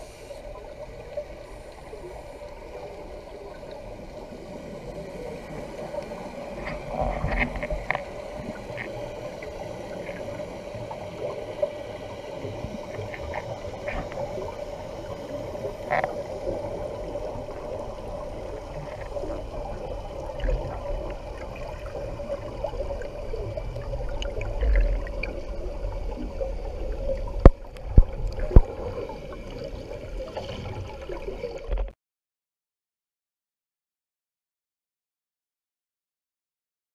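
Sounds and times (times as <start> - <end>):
muffled underwater noise: 0.0 - 31.9.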